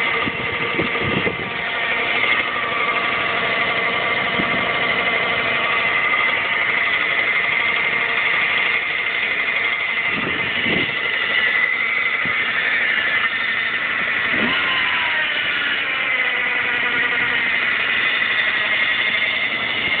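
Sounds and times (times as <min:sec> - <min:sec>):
moped engine idling: 0:00.0 - 0:20.0.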